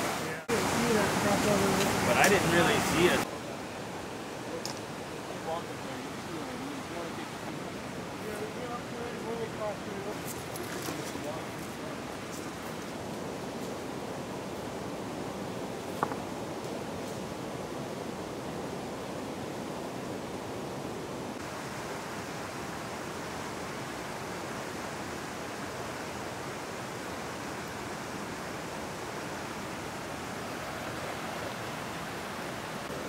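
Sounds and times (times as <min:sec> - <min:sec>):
creek rushing over rocks: 0:00.0 - 0:33.0.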